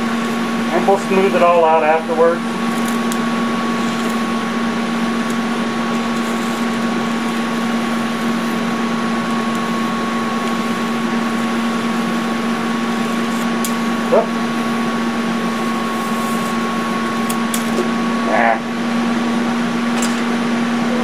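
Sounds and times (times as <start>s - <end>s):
welding arc buzzing hiss: 0.0s - 21.0s.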